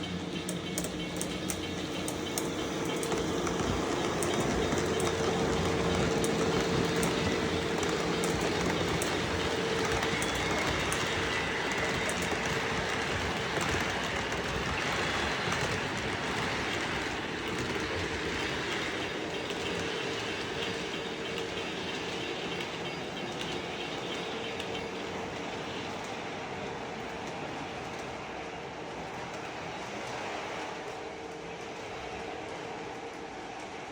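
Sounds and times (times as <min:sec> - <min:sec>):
model train motor hum: 0:00.0 - 0:28.3
wheels clicking over rail joints: 0:00.0 - 0:33.8
train wheels rumbling: 0:00.0 - 0:33.9.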